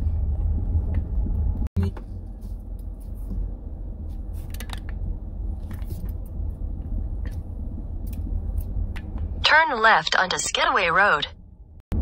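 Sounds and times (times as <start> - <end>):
van engine and tyres rumbling: 0.0 - 10.7.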